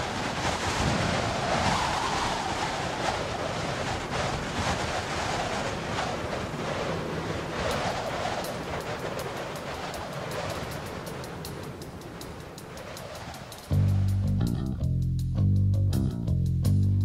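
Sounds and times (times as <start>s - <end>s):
wind gusts buffeting microphone: 0.0s - 14.9s
blizzard wind roaring: 0.0s - 15.0s.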